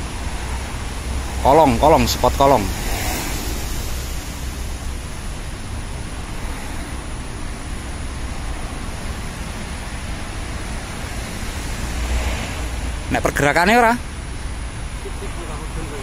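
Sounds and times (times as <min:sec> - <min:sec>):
even hiss: 0:00.0 - 0:16.0.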